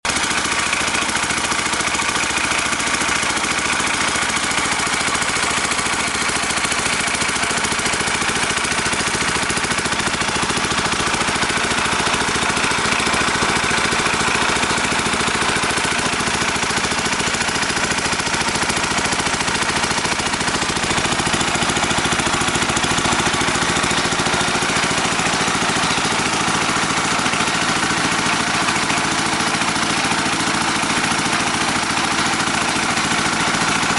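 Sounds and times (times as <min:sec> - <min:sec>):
well-drilling machine pulsing: 0:00.1 - 0:33.9.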